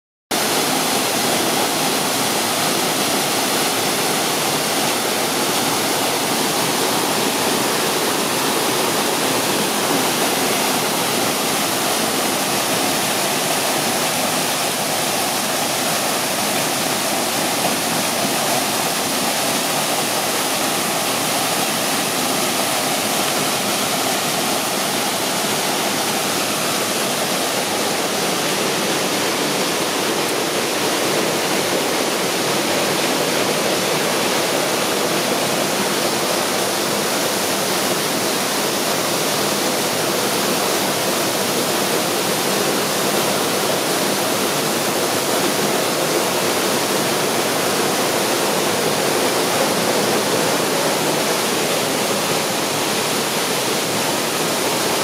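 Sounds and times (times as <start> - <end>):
waterfall rushing: 0.3 - 55.0.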